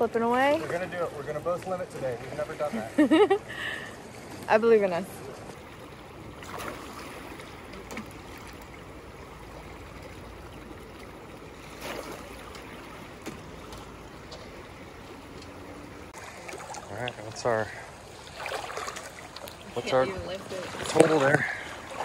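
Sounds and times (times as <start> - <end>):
river current rushing: 0.0 - 22.0.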